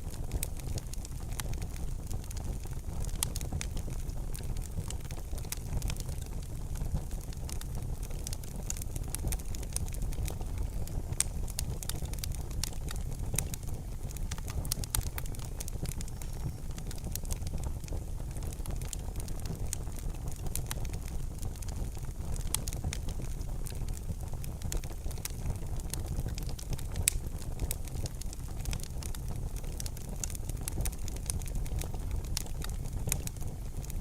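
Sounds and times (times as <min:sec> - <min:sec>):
fireplace fire crackling: 0:00.0 - 0:34.0.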